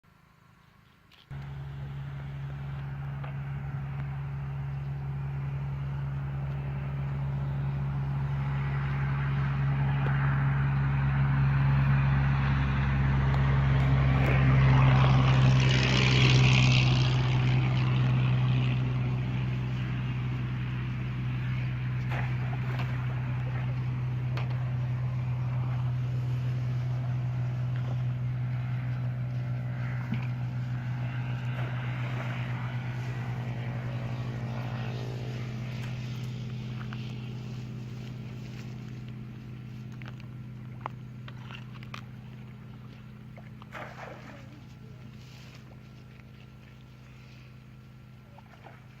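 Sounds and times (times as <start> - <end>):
motorboat engine hum: 0.1 - 49.0.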